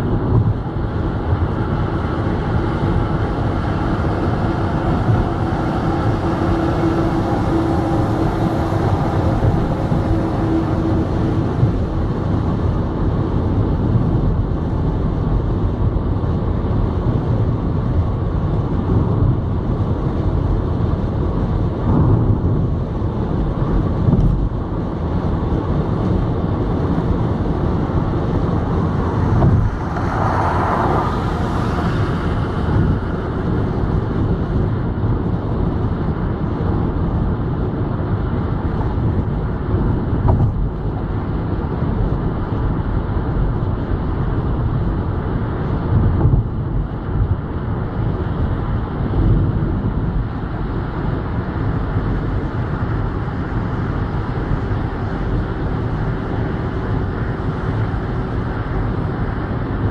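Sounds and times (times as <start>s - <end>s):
car engine hum: 0.0s - 59.9s
road and tyre rumble: 0.0s - 59.9s.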